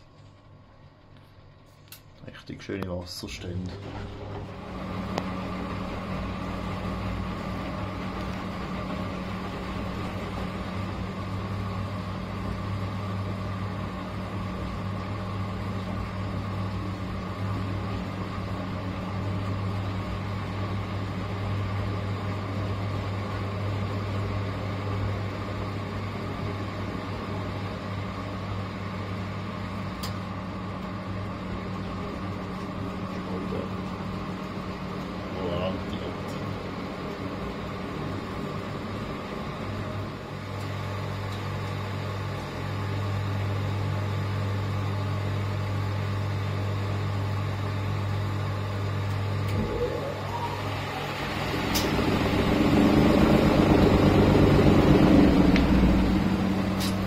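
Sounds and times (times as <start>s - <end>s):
washing machine running: 3.0s - 57.0s.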